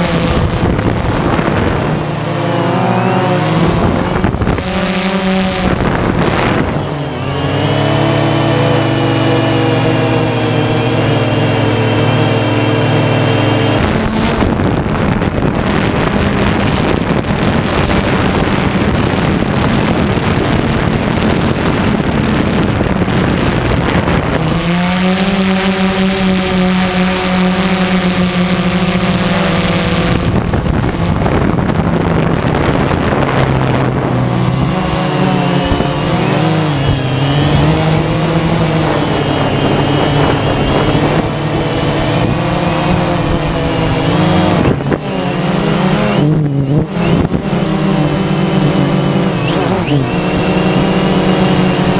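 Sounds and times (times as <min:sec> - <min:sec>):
drone propellers buzzing: 0:00.0 - 0:51.9.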